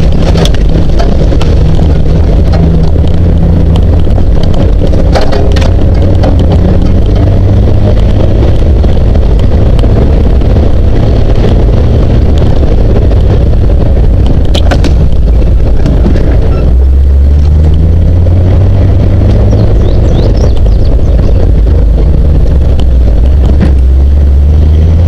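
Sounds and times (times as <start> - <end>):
car engine running: 0.0 - 25.0
rattles: 0.0 - 25.0.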